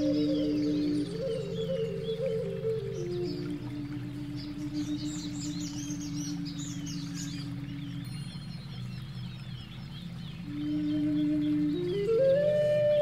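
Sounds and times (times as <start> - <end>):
birds chirping: 0.0 - 13.0
low pulsing hum: 0.0 - 13.0.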